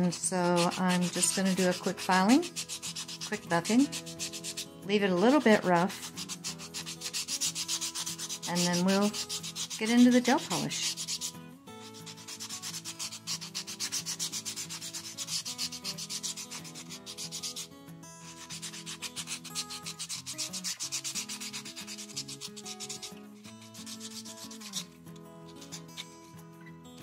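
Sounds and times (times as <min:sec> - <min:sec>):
nail buffer rubbing fingernail: 0:00.2 - 0:17.7, 0:18.3 - 0:26.3.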